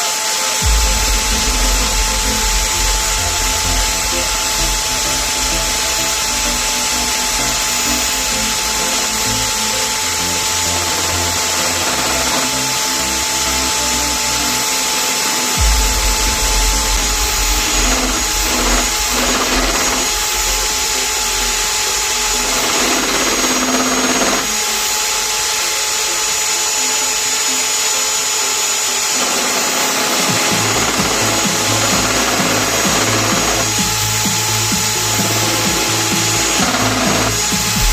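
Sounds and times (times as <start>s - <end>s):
lathe motor whine: 0.0s - 37.9s.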